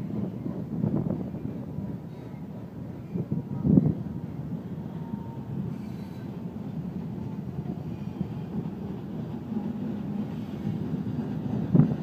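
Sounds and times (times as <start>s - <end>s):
train wheels rumbling on rails: 0.0s - 12.0s
wind buffeting microphone: 0.0s - 12.0s.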